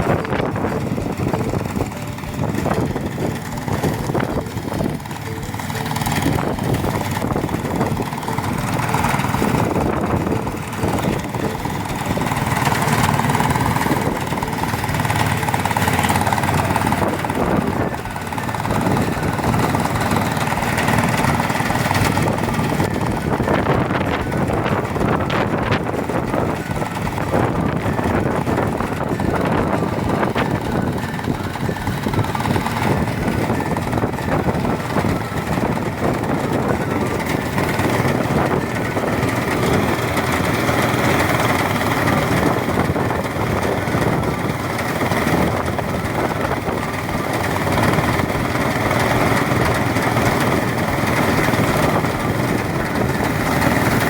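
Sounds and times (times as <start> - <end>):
rice thresher engine clattering: 0.0 - 54.0.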